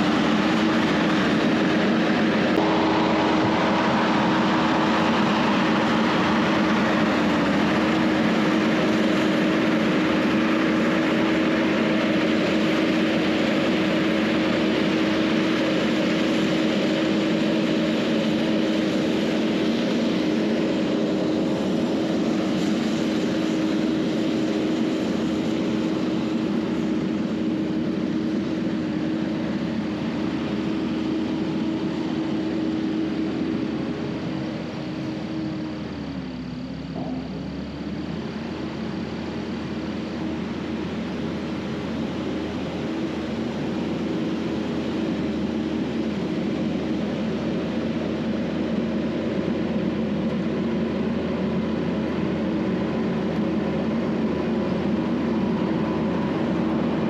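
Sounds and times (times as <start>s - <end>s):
loader engine drone: 0.0s - 57.0s.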